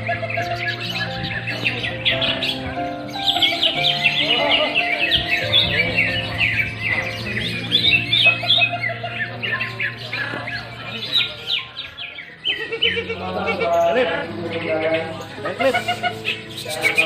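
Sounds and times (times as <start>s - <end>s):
music playing: 0.0s - 17.0s
songbirds chirping and whistling: 0.0s - 17.0s.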